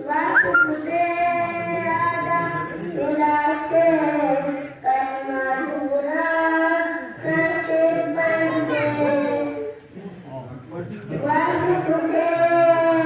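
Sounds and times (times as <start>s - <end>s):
boy singing devotional verses: 0.0s - 9.9s, 11.1s - 13.0s.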